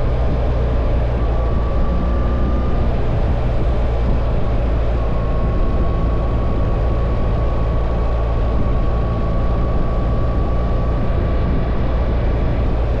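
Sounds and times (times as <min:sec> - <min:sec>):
motorcycle engine drone: 0:00.0 - 0:13.0
wind rushing noise: 0:00.0 - 0:13.0.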